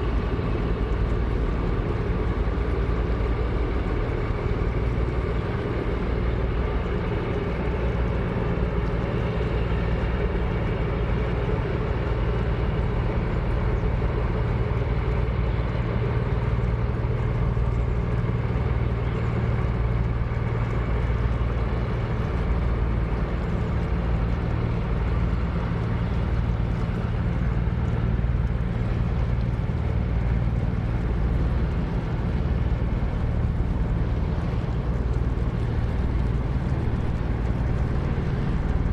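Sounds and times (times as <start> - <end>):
diesel boat engine droning: 0.0 - 38.9.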